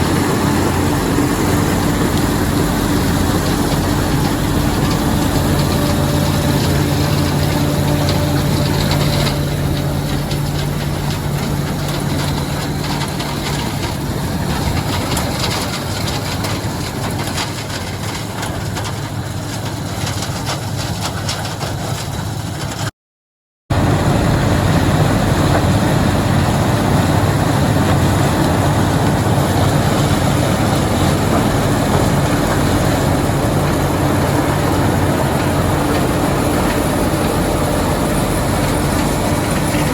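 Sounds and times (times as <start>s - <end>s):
farm machinery engine running: 0.0s - 22.9s, 23.7s - 39.9s.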